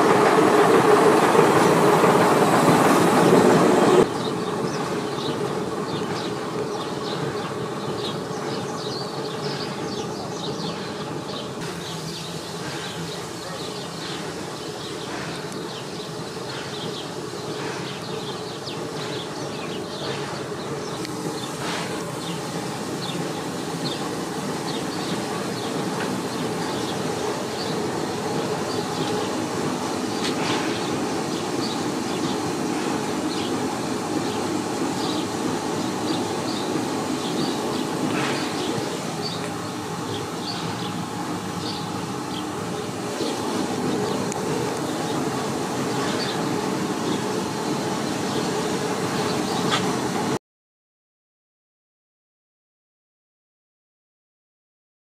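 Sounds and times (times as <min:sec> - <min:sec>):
railcar engine running: 0:00.0 - 0:50.4.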